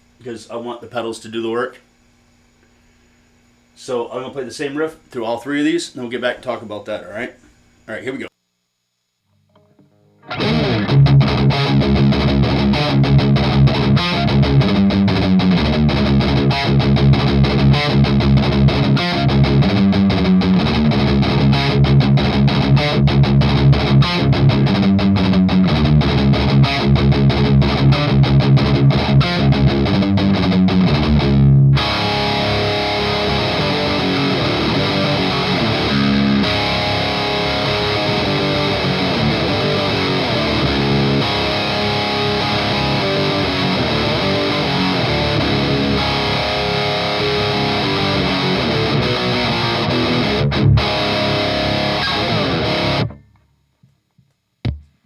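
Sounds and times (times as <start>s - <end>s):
distorted electric guitar riff: 9.4s - 53.4s.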